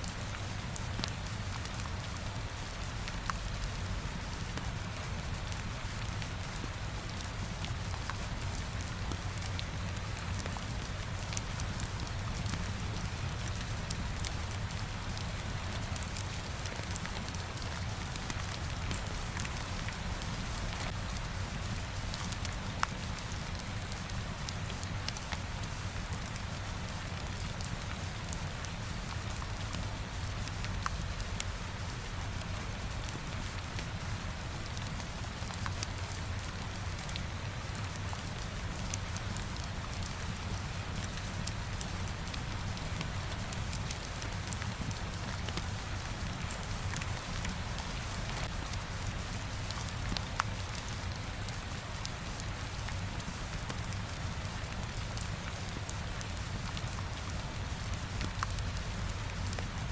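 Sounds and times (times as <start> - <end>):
faint ticks and soft crackles: 0.0 - 59.9
rain against a window: 0.1 - 59.8.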